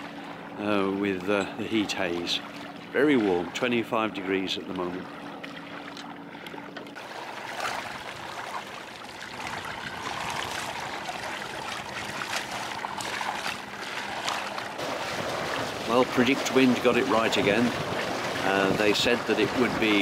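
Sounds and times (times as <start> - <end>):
water splashing along hull: 0.0 - 20.0.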